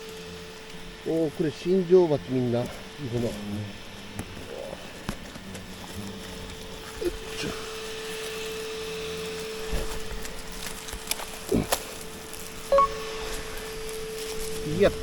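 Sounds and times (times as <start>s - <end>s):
hornets buzzing: 0.0s - 15.0s.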